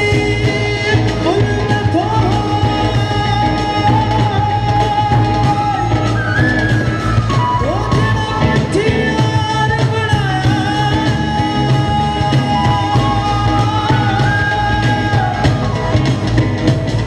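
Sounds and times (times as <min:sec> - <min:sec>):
person singing long sliding notes: 0:00.0 - 0:16.3
live band playing pop music: 0:00.0 - 0:17.0.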